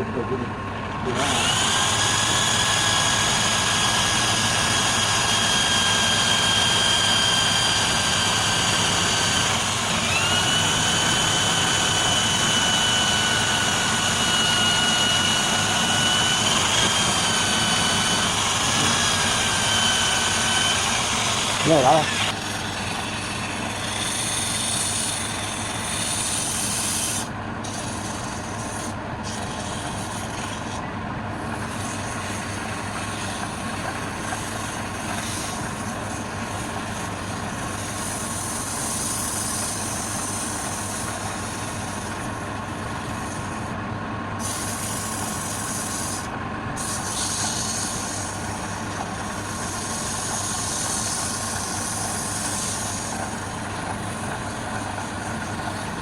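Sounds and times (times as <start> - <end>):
tool cutting spinning wood: 0.0 - 43.8, 44.4 - 56.0
wood lathe motor hum: 0.0 - 56.0.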